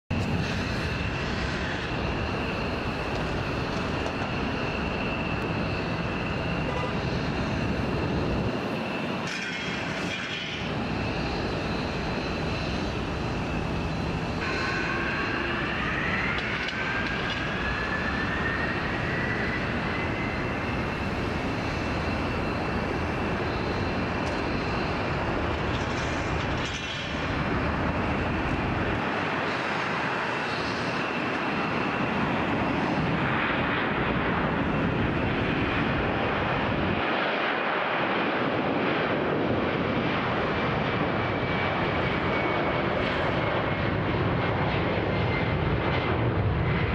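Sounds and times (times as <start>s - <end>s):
jet engine fan whine: 0.1s - 46.9s
jet engines spooling up: 0.1s - 46.9s.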